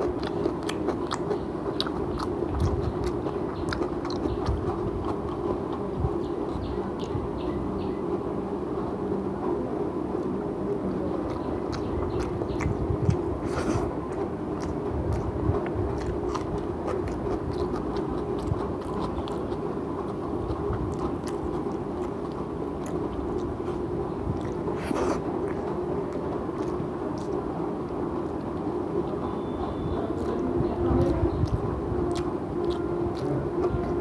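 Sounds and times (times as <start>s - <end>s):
wet chewing: 0.0s - 7.9s, 10.2s - 34.0s
steady low hum: 0.0s - 34.0s.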